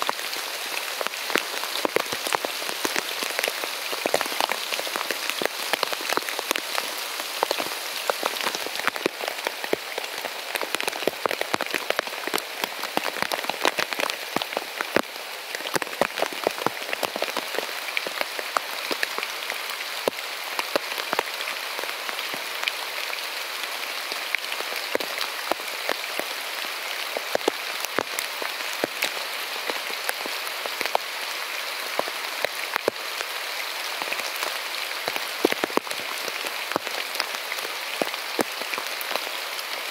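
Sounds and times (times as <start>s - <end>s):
heavy rain hissing: 0.0s - 39.9s
raindrops hitting a surface: 0.0s - 39.9s.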